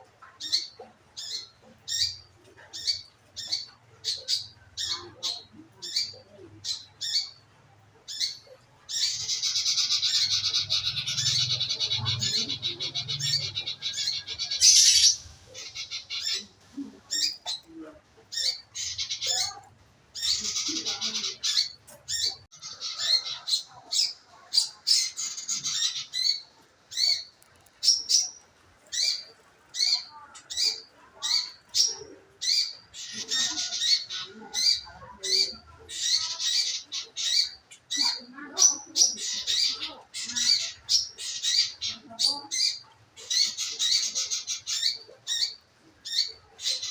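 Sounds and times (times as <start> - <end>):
bird chirps and trills: 0.2 - 7.4, 8.1 - 46.9.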